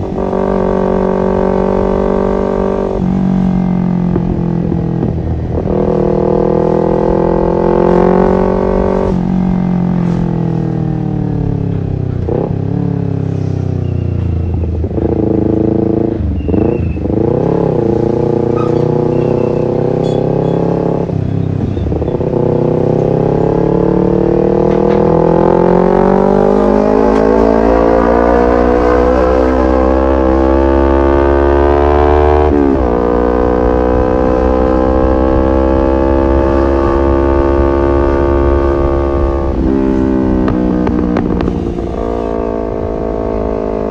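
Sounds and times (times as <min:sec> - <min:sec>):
motorcycle engine shifting gears: 0:00.0 - 0:43.9.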